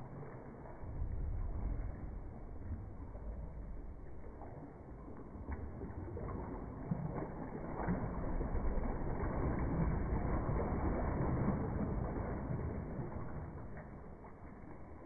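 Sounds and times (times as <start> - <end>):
canoe paddle strokes in water: 0.0 - 15.0
water sloshing against walls: 0.0 - 15.0.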